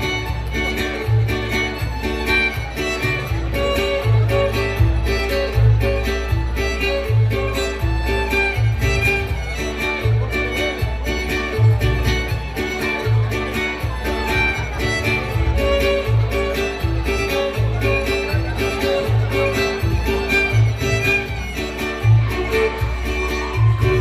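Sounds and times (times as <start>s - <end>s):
bass marking a beat: 0.0s - 24.0s
strummed chords: 0.0s - 24.0s
violin melody: 0.0s - 24.0s.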